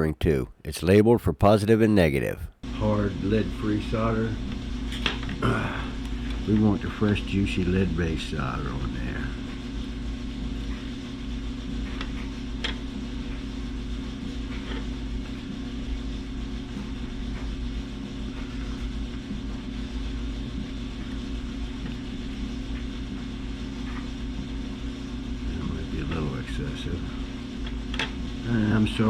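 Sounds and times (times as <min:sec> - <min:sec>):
motor or fan humming: 0:00.0 - 0:29.0.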